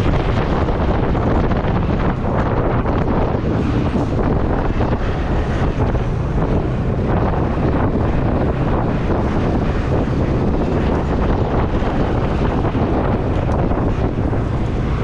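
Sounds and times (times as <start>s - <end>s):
motorcycle engine hum: 0.0s - 15.0s
wind rushing over microphone: 0.0s - 15.0s.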